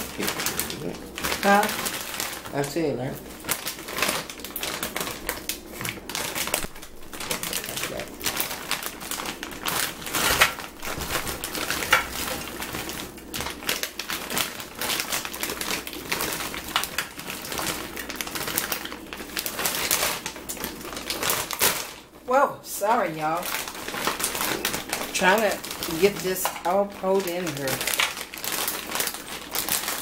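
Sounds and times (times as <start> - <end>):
frozen fries clattering into basket: 0.0 - 22.1, 23.2 - 30.0
bag crinkling: 0.0 - 22.2, 22.8 - 30.0.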